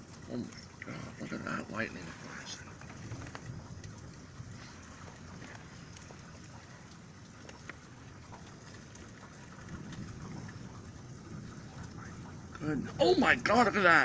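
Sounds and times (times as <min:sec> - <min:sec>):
steady rain falling: 0:00.0 - 0:14.0
raindrops ticking on surfaces: 0:02.5 - 0:14.0.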